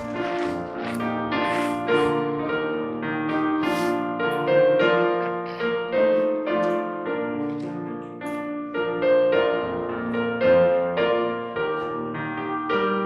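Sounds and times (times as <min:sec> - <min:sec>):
slow gentle piano melody: 0:00.0 - 0:13.0.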